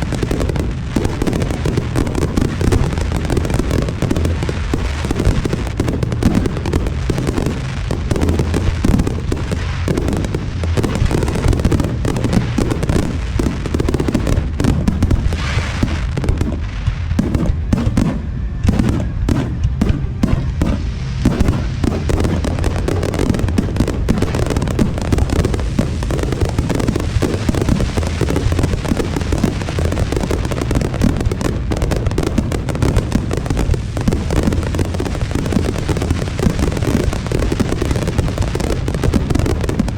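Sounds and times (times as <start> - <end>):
firework bursts booming: 0.0 - 39.9
hissing crackle: 0.0 - 39.9.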